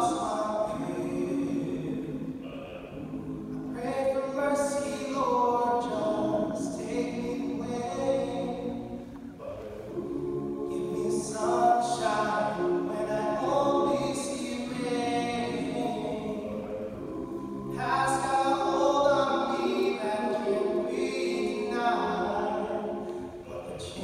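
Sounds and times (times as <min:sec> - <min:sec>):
male group singing a cappella: 0:00.0 - 0:24.0.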